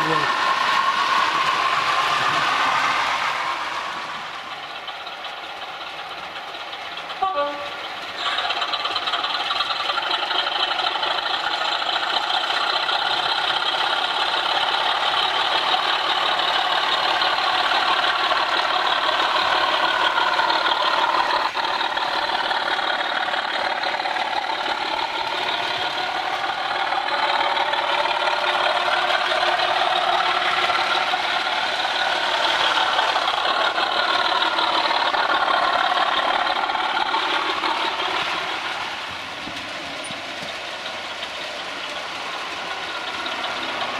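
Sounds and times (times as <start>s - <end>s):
model locomotive engine sound: 0.0s - 43.9s.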